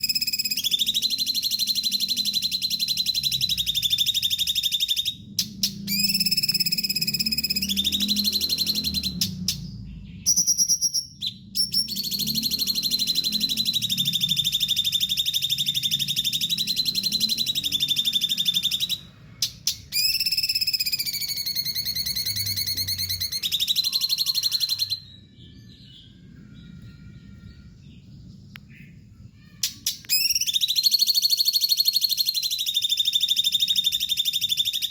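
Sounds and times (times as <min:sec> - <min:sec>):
songbird trilling song: 0:00.0 - 0:34.9.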